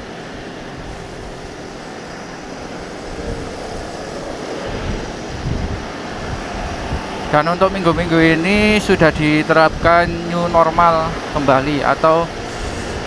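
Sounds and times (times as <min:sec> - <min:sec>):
wind and road noise: 0:00.0 - 0:13.0
wind buffeting on microphone: 0:00.4 - 0:11.5, 0:12.3 - 0:13.0.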